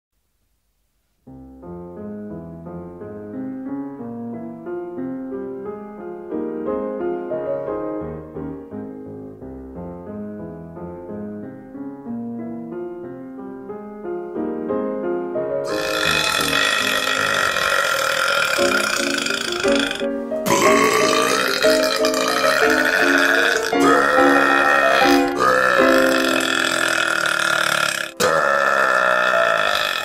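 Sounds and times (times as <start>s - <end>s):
piano melody: 1.2s - 30.0s.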